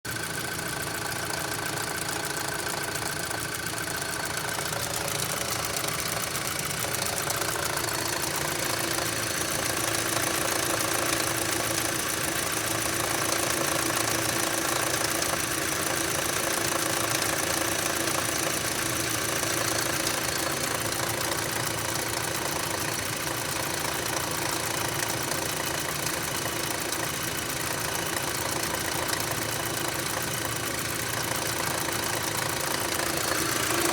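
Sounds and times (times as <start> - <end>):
car engine running: 0.1 - 33.9
rapid engine knocking: 0.1 - 33.9.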